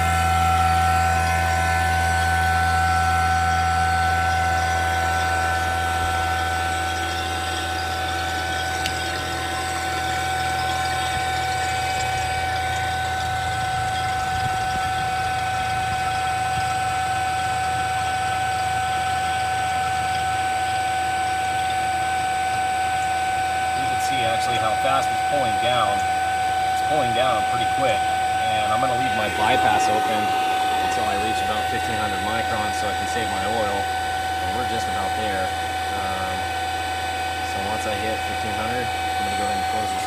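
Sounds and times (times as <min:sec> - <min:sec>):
vacuum pump running: 0:00.0 - 0:40.0.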